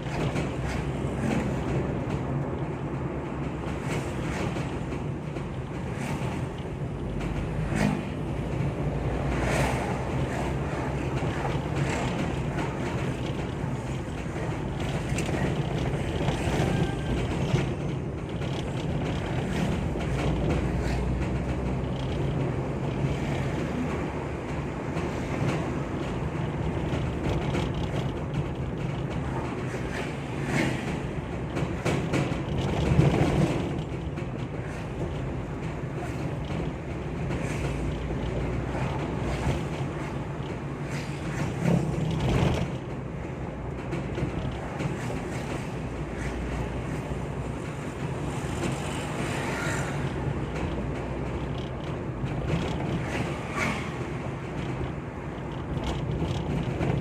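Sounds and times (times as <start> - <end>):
rattles and creaks: 0.0 - 57.0
vehicle engine and road noise: 0.0 - 57.0
wind: 0.0 - 57.0.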